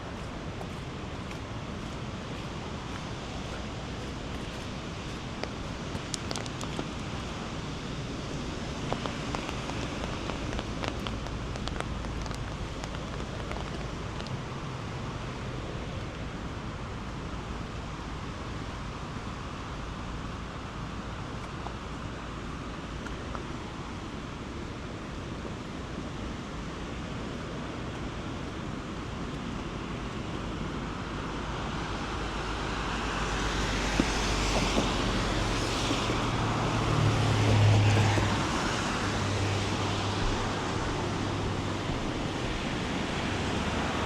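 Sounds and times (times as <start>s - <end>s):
flowing water: 0.0s - 44.0s
rain: 0.0s - 44.0s.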